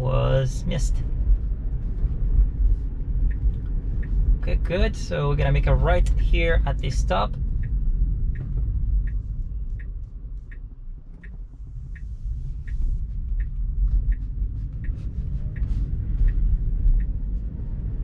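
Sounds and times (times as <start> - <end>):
low road rumble: 0.0 - 18.0
turn signal ticking: 0.0 - 18.0.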